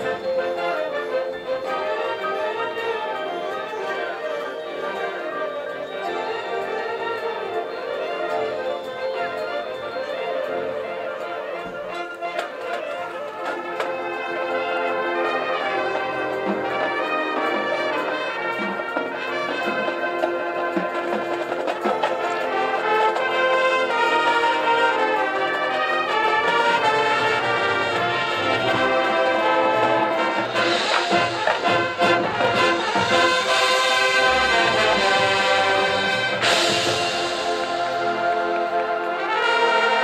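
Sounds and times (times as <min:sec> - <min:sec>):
marching band playing: 0:00.0 - 0:40.0.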